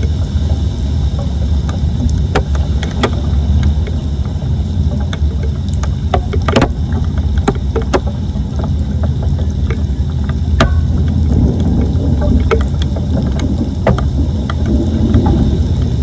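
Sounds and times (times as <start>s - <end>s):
sharp clicks and knocks: 0.0s - 16.0s
steady low rumble: 0.0s - 16.0s.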